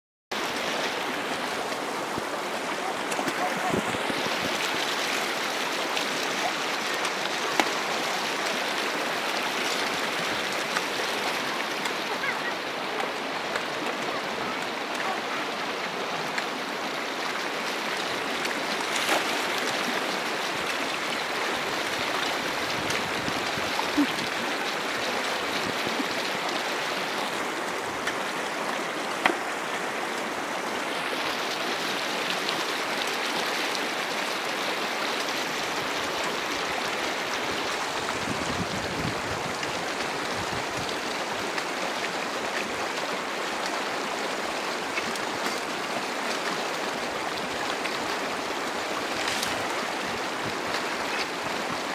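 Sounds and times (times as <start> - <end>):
river rushing: 0.3 - 51.9.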